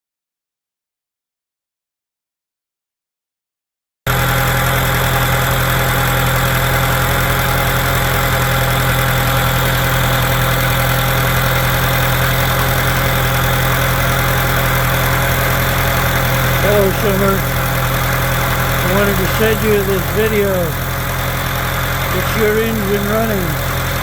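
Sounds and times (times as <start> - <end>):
boat engine idling: 4.1 - 24.0.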